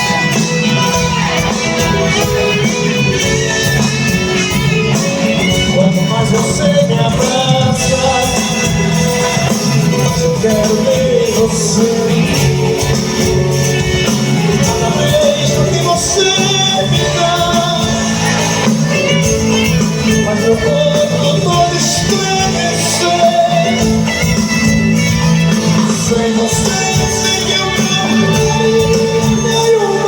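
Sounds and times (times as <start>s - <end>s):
live band instrumental music: 0.0s - 30.0s.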